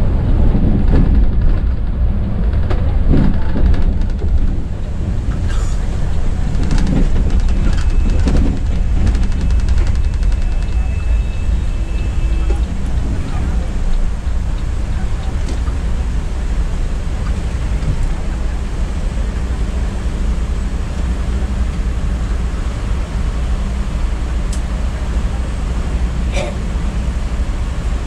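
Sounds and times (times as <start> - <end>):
coach diesel engine rumble: 0.0 - 28.0
road noise: 0.0 - 28.0.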